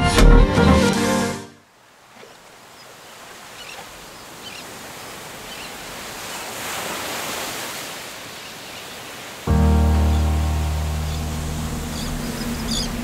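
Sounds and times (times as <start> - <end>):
surf washing onto beach: 2.0 - 13.0.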